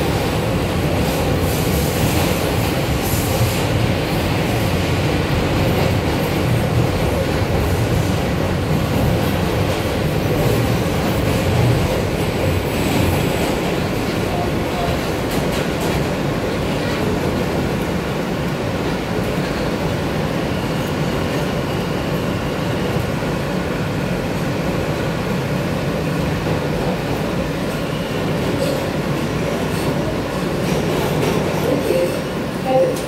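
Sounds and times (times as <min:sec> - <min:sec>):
subway train running noise: 0:00.0 - 0:33.0.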